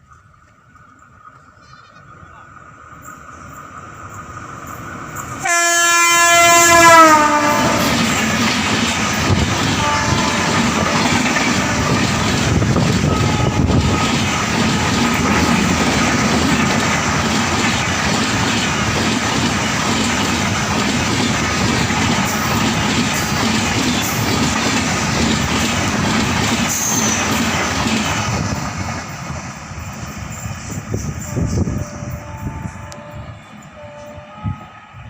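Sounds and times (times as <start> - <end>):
train coaches rushing past: 0.0 - 35.0.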